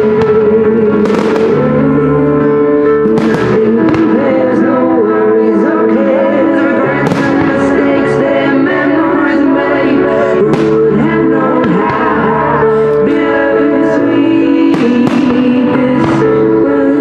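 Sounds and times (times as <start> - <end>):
loud music: 0.0 - 17.0.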